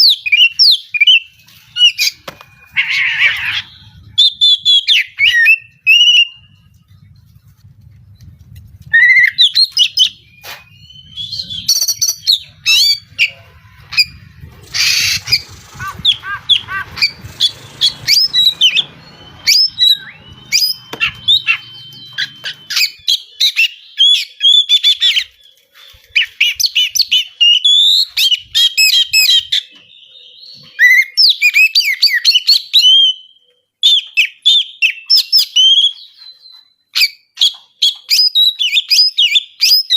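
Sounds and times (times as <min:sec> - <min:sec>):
bird singing whistles and chirps: 0:00.0 - 0:07.2, 0:08.8 - 0:39.9.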